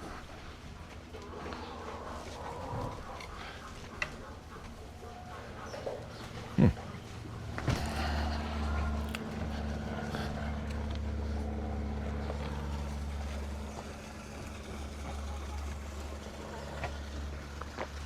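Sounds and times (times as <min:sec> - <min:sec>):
motor humming: 0:00.8 - 0:18.0.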